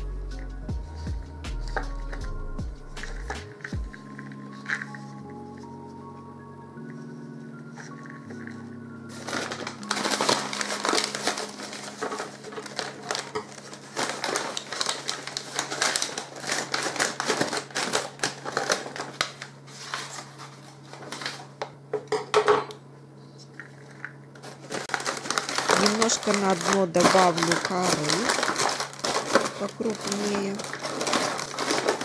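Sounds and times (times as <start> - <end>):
paper bag crinkling and rustling: 3.0 - 6.0, 6.8 - 21.8, 23.5 - 32.0.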